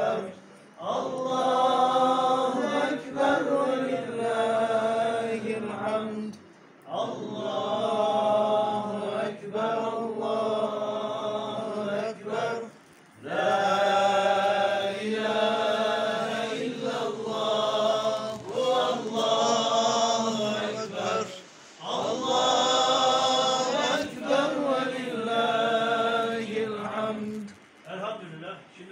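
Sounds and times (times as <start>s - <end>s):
men chanting together: 0.0s - 27.4s.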